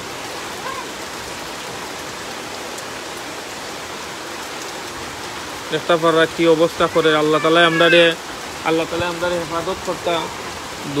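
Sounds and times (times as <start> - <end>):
heavy rain on trees and water: 0.0 - 11.0.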